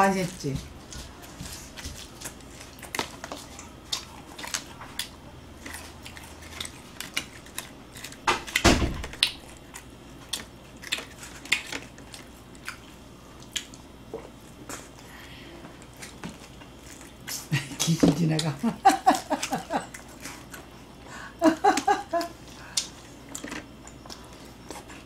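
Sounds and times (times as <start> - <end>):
eating sounds: 0.5 - 25.0.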